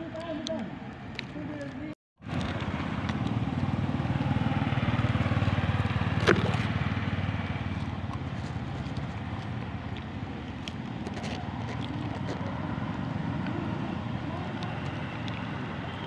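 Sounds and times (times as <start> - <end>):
low engine rumble: 0.1 - 16.0.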